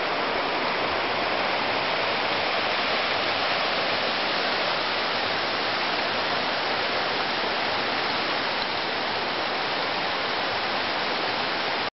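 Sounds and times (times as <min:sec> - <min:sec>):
river water rushing: 0:00.0 - 0:11.9.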